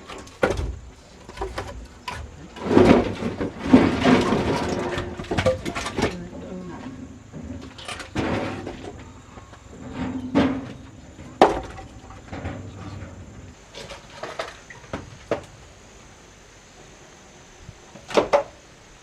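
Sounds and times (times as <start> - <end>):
wood knocking and clattering: 0.0 - 15.5, 17.9 - 18.5.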